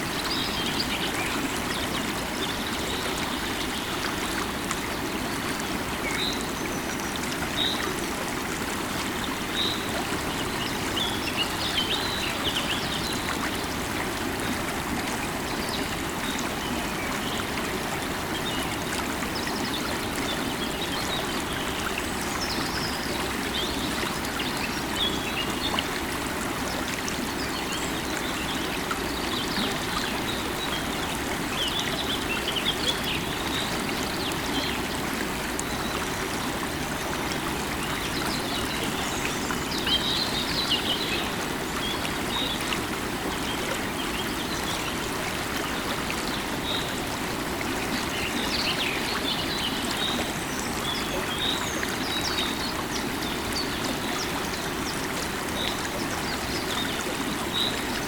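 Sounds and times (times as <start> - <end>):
river water running: 0.0 - 58.0.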